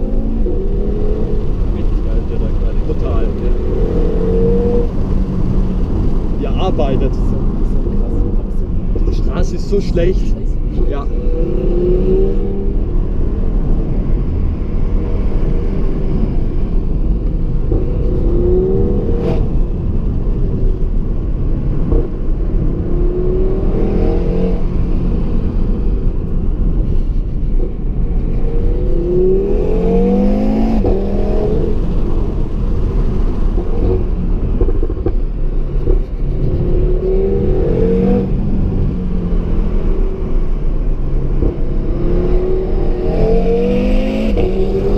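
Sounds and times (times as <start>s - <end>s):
car engine revving: 0.0s - 44.9s
engine and road rumble: 0.0s - 44.9s.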